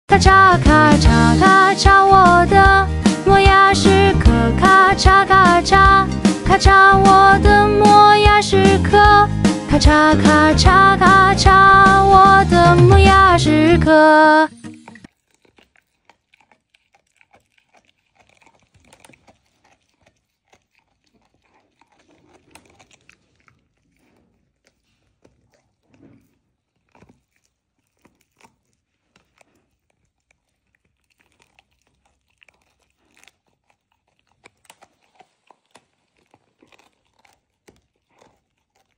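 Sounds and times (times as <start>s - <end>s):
pet teeth chewing something hard: 0.1s - 38.9s.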